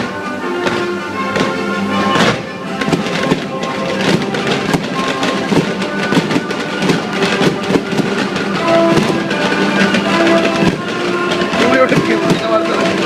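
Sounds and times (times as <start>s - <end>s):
fireworks pops and bangs: 0.0s - 13.0s
music with held notes: 0.0s - 13.0s.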